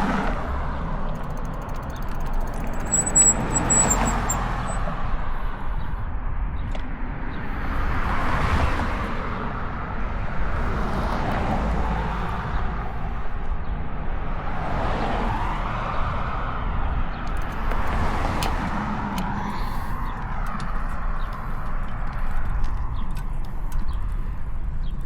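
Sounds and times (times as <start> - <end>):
cars passing: 0.0 - 25.0
low traffic rumble: 0.0 - 25.0.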